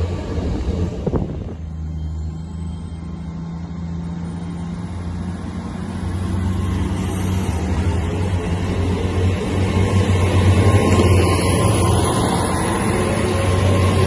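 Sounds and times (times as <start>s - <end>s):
train diesel engines humming: 0.0s - 14.0s
wheels rushing on rail: 0.0s - 14.0s.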